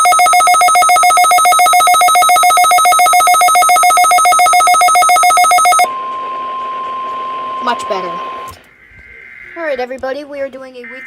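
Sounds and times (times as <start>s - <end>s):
pulsing electronic alarm tone: 0.0s - 11.0s.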